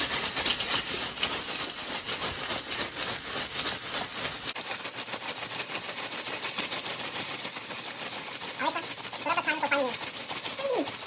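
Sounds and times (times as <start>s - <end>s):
ice cubes rattling in plastic bag: 0.0s - 11.0s.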